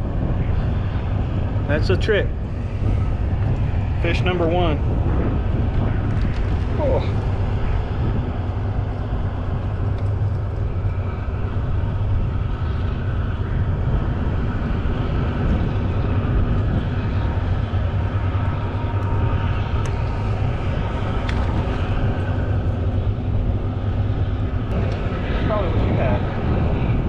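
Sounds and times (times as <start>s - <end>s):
diesel engine drone: 0.0s - 27.0s.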